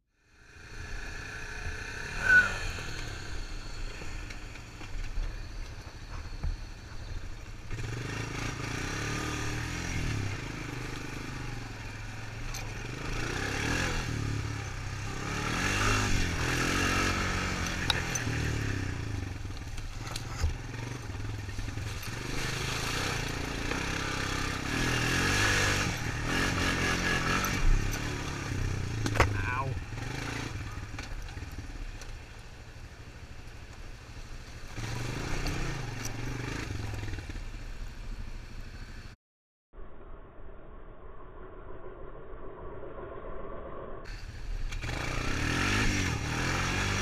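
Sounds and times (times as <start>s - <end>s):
atv engine revving: 0.4s - 32.4s, 33.6s - 38.7s, 44.1s - 47.0s.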